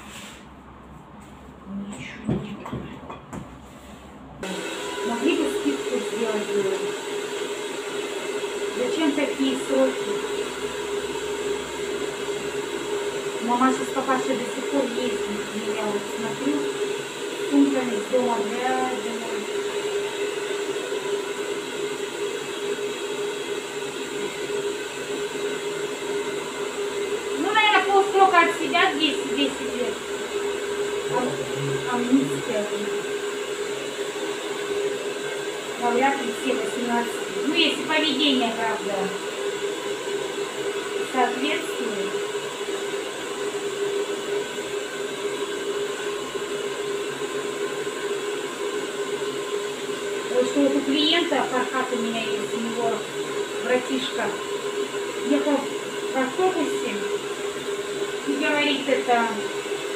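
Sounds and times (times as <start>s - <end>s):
hair dryer running: 4.4s - 59.9s.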